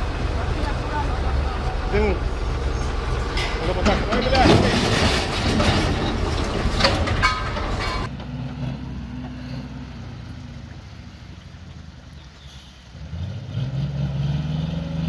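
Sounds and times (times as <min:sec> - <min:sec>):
heavy vehicle noise: 0:00.0 - 0:15.0.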